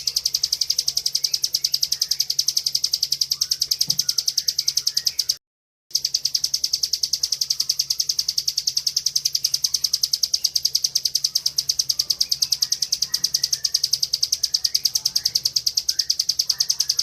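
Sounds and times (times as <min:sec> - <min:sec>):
bird rapid high call: 0:00.0 - 0:17.0.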